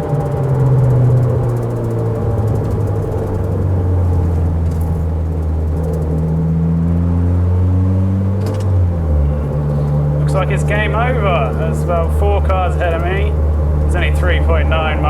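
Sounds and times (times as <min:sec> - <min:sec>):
car engine inside cabin: 0:00.0 - 0:15.0
road noise: 0:00.0 - 0:15.0.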